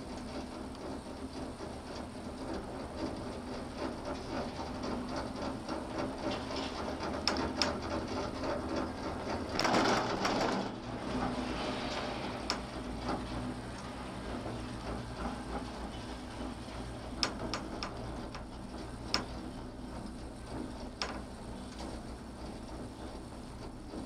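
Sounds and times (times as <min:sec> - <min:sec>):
gondola cabin rattle and hum: 0:00.0 - 0:24.0
rumbling clatter over sheaves: 0:00.0 - 0:24.0.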